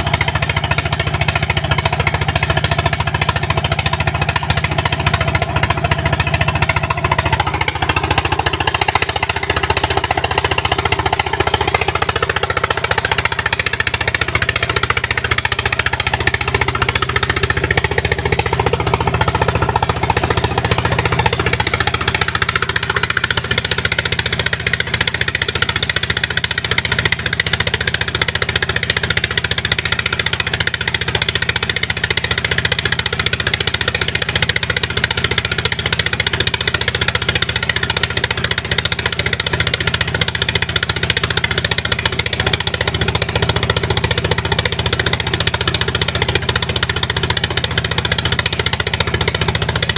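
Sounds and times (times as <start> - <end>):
pump engine knocking steadily: 0.0 - 49.9.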